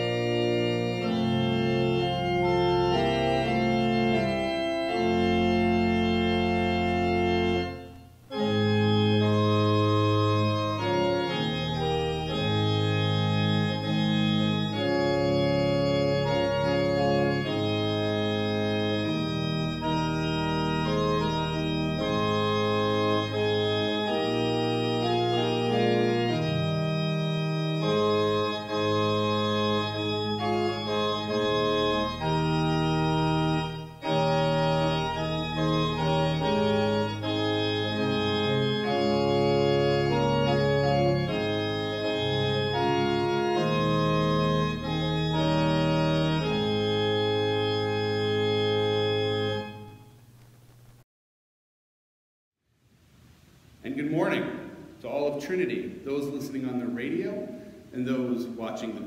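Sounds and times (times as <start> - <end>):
organ playing sustained chords: 0.0 - 50.9, 53.8 - 59.0.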